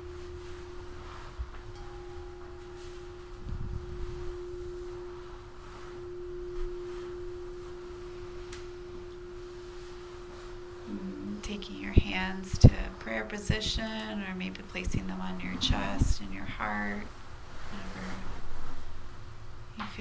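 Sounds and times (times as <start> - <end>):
faint higher tone: 0.0 - 18.8
singing bowl tone: 0.0 - 20.0.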